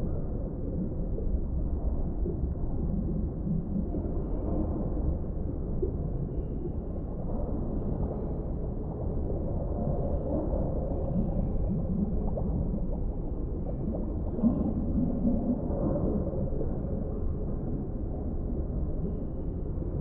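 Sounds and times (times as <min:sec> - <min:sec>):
low rumble of deep water: 0:00.0 - 0:20.0
low underwater gurgling blips: 0:00.0 - 0:20.0.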